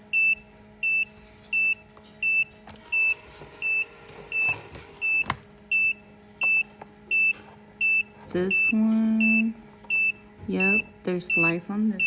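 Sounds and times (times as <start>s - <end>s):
electronic alarm beeping: 0.0s - 12.0s.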